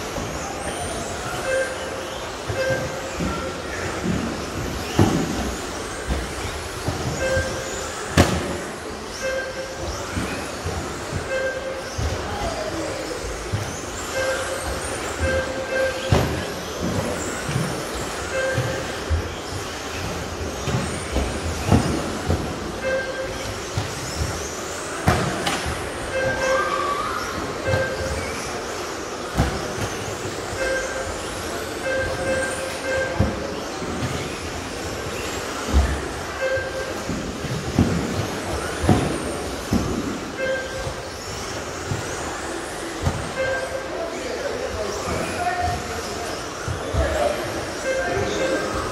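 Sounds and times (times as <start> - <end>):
trucks thumping on landing: 0.0 - 43.9.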